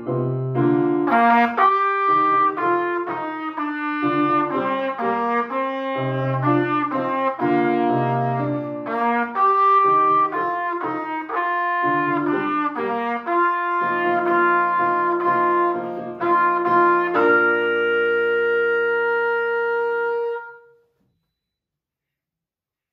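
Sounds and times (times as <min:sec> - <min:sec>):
instrumental music with held chord: 0:00.0 - 0:20.6.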